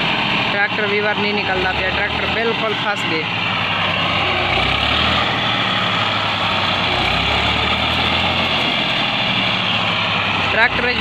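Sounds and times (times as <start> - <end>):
tractor diesel engine straining: 0.0 - 11.0.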